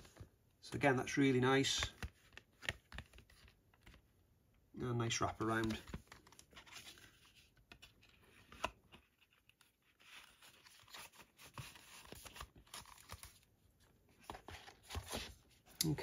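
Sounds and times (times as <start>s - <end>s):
card packaging rustling: 1.7s - 4.0s, 5.1s - 15.7s.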